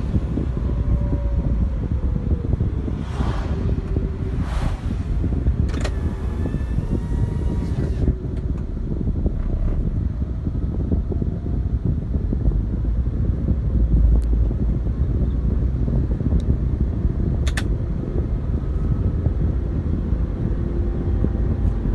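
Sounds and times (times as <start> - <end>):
vehicle engine rumble: 0.0 - 21.9
wind noise: 0.0 - 21.9.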